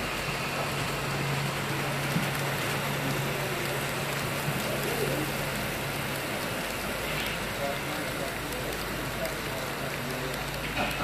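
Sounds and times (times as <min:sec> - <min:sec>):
constant hiss: 0:00.0 - 0:11.0
model train running past: 0:00.0 - 0:11.0.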